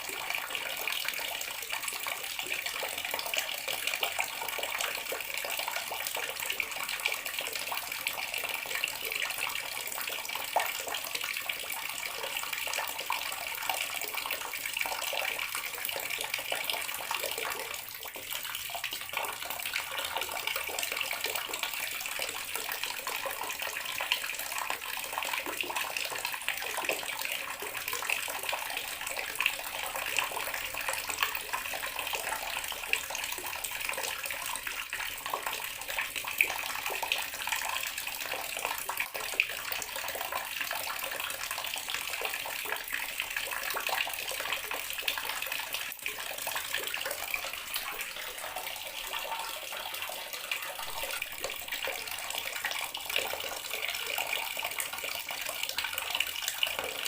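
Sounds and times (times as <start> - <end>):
water tap running into basin: 0.0 - 57.0.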